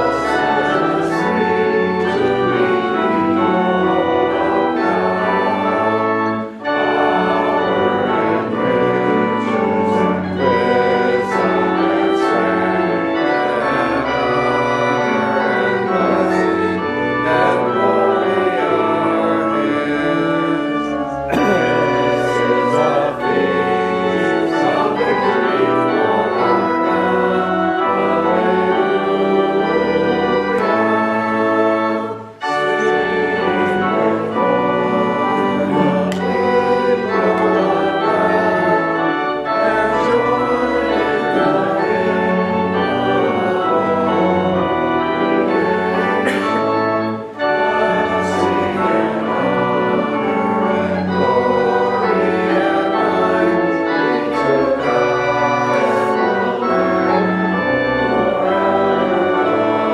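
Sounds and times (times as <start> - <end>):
church organ chords: 0.0 - 59.9
congregation singing: 0.0 - 59.9.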